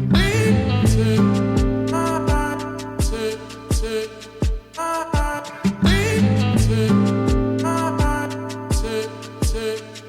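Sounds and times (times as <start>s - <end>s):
electronic music with kick drum: 0.0s - 9.7s.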